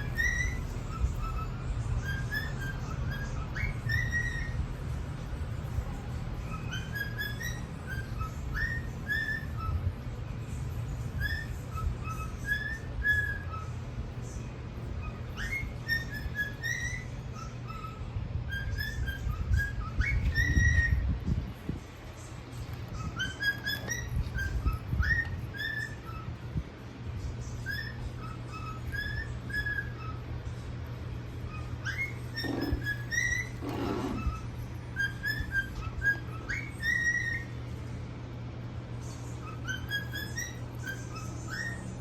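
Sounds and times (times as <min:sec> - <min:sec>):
parrotlets whistled chirps: 0:00.0 - 0:21.4, 0:22.8 - 0:26.6, 0:27.4 - 0:30.7, 0:31.4 - 0:37.8, 0:39.0 - 0:42.0
low steady rumble: 0:00.0 - 0:42.0.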